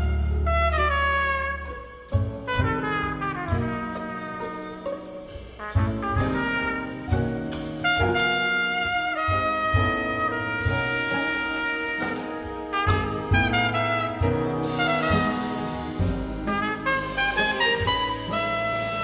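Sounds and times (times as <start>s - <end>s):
jazz orchestra playing a ballad: 0.0s - 19.0s.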